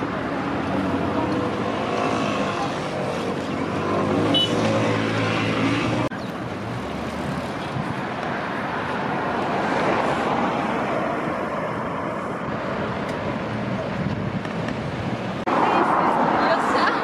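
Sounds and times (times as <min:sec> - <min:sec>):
cars and trucks passing: 0:00.0 - 0:17.0.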